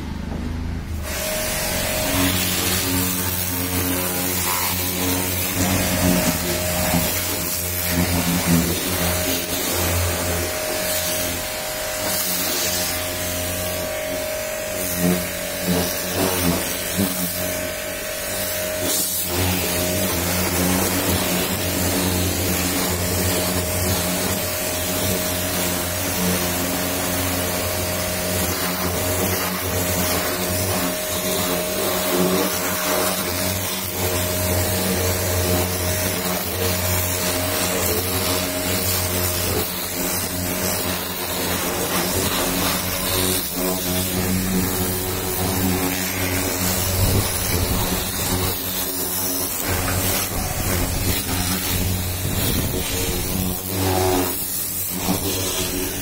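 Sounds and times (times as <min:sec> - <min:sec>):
pressure washer motor hum: 0:00.0 - 0:56.0
water jet hissing: 0:00.9 - 0:56.0.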